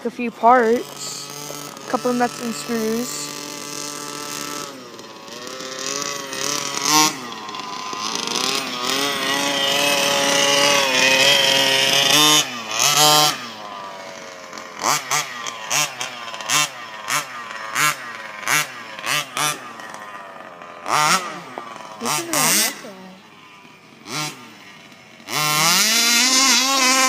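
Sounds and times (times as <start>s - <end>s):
engine throttle blips: 0.0s - 27.0s
small engine revving: 0.0s - 27.0s.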